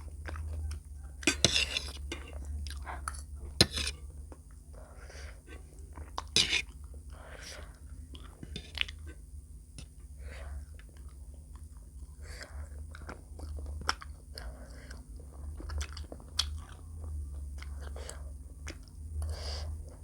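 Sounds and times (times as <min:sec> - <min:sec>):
chewing food: 0:00.0 - 0:09.2, 0:09.8 - 0:20.0.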